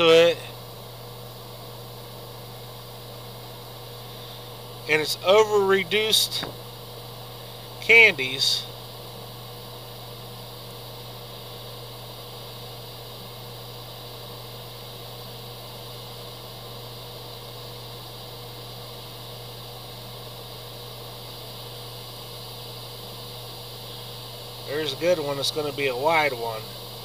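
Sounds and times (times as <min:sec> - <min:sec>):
airbrush air hissing: 0:00.0 - 0:16.4, 0:20.2 - 0:27.0
constant low hum: 0:00.0 - 0:27.0.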